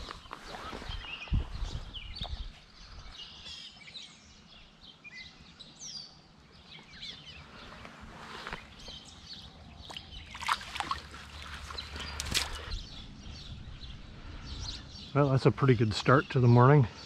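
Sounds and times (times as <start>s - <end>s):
songbirds chirping and singing: 0.0s - 17.0s.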